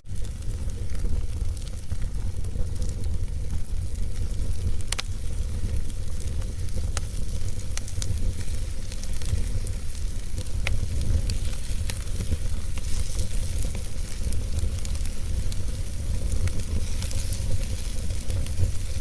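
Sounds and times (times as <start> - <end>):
fire crackling in a fireplace: 0.0 - 19.0.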